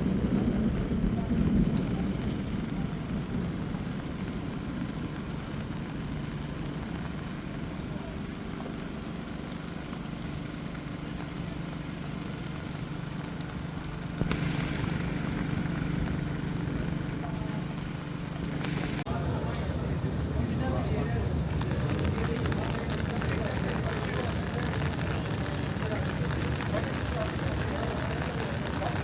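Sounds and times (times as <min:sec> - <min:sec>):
loud rush of noise: 0:00.0 - 0:29.0
rain hiss: 0:00.0 - 0:29.0
traffic hum: 0:00.0 - 0:29.0.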